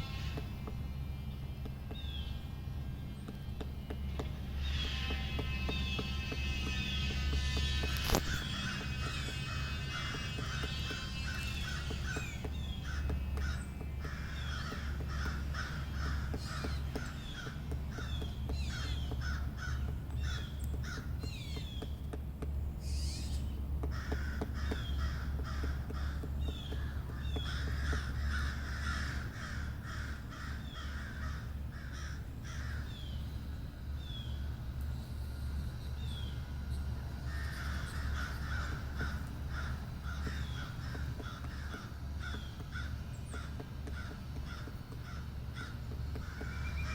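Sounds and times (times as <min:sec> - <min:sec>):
harsh bird calls: 0:00.0 - 0:46.9
steady low rumble: 0:08.0 - 0:46.9.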